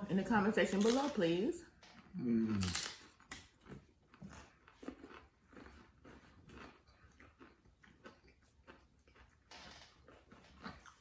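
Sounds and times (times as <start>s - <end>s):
person chewing food: 1.7s - 11.0s.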